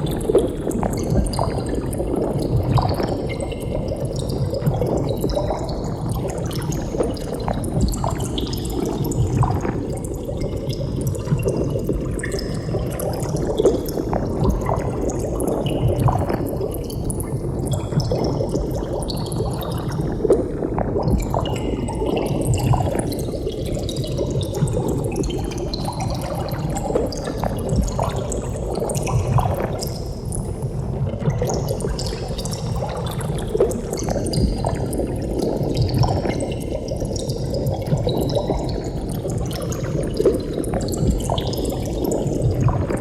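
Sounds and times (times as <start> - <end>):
underwater bubbling: 0.0 - 43.0.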